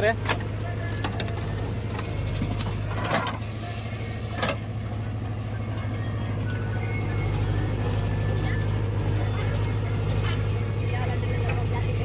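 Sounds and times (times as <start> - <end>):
diesel engine of heavy machinery: 0.0 - 12.0.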